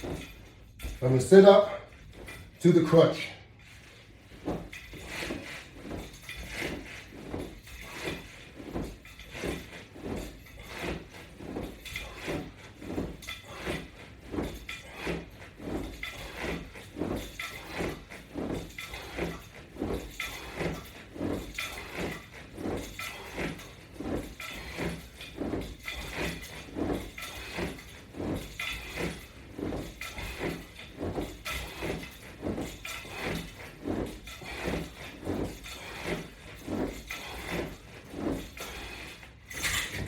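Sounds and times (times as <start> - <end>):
strap hardware creaking and clinking: 0.0 - 40.0.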